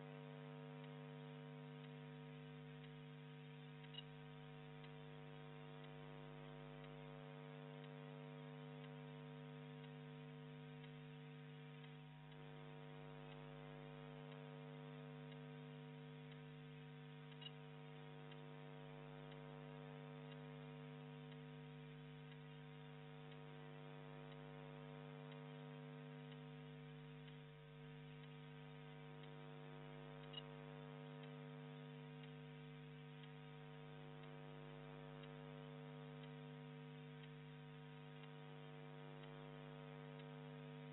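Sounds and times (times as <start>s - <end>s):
faint ticks: 0.0s - 40.9s
steady electrical hum: 0.0s - 40.9s.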